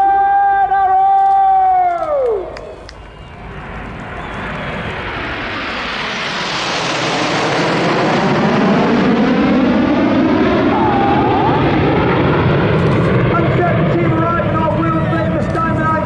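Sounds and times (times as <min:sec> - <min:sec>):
jet roar of formation flypast: 0:01.3 - 0:16.0.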